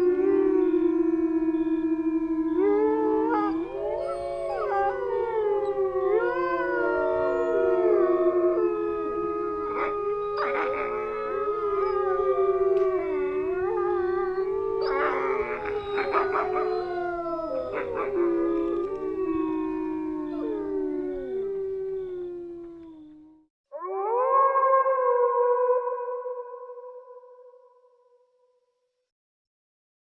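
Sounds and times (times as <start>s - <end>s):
animal howls: 0.0s - 27.4s.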